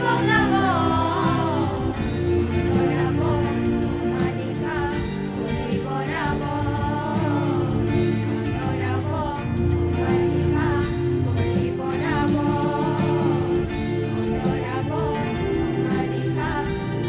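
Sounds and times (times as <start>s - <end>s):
group singing: 0.0s - 17.0s
keyboard: 0.0s - 17.0s.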